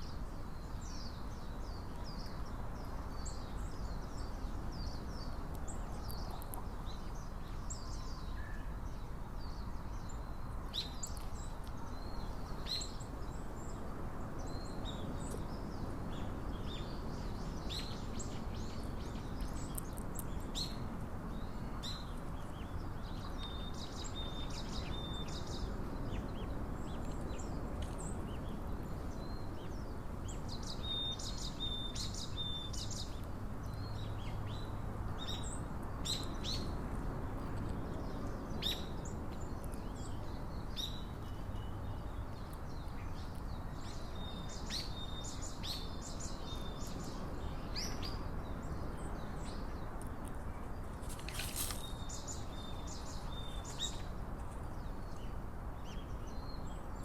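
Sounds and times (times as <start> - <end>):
small birds chipping and whistling: 0.0 - 57.0.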